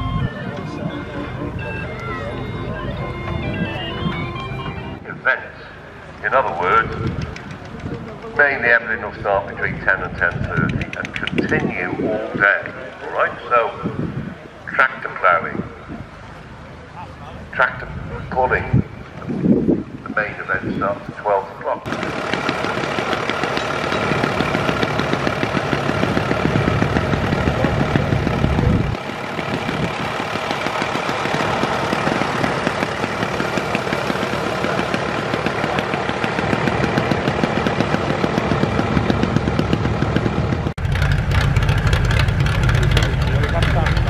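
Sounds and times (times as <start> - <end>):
tractor engines idling: 0.0 - 44.0.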